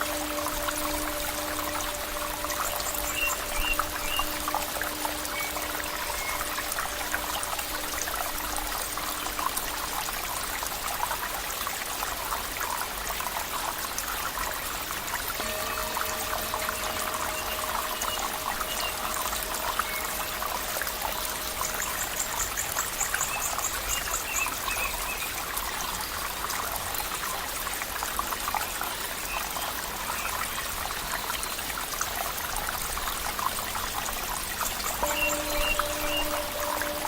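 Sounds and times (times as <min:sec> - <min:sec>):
stream water trickling: 0:00.0 - 0:37.0.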